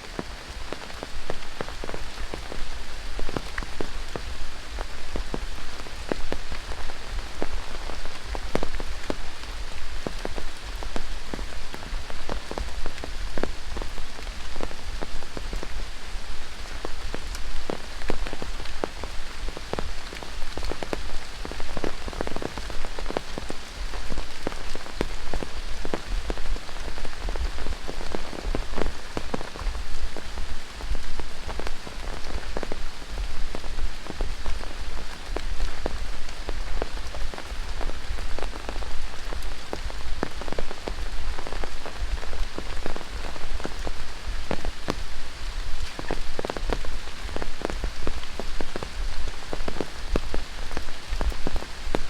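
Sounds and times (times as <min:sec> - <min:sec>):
raindrops pattering close by: 0:00.0 - 0:52.0
steady rain hiss: 0:00.0 - 0:52.0.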